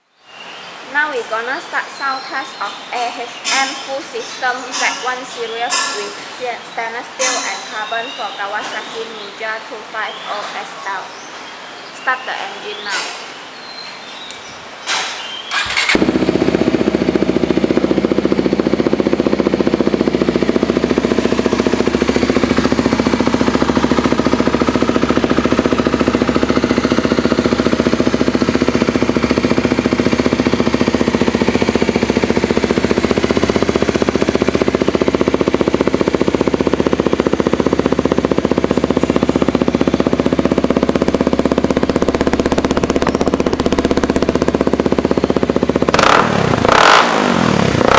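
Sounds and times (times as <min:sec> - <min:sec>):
motorcycle engine running: 0:00.0 - 0:13.6, 0:15.4 - 0:47.9.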